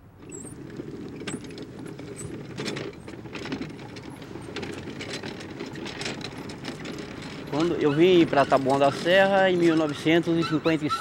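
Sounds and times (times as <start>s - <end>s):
mechanical rattling and clattering: 0.1s - 10.4s.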